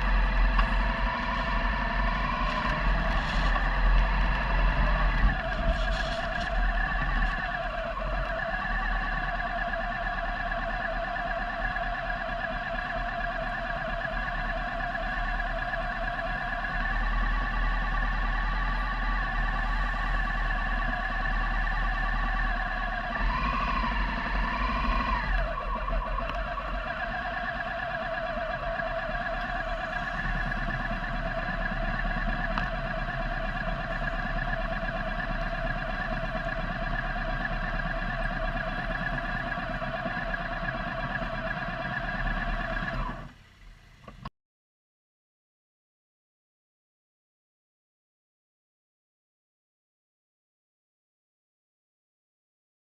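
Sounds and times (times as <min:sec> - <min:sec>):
motorcycle engine cruising: 0:00.0 - 0:44.2
wind and road rumble: 0:00.0 - 0:44.3.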